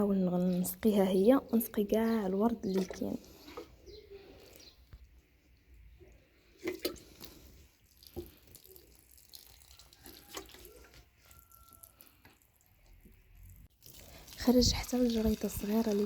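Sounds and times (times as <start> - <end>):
running and dripping water: 2.6 - 16.0.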